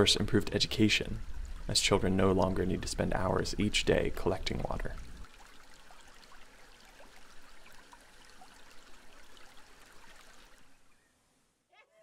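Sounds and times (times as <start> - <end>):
river water trickling: 0.0 - 11.5.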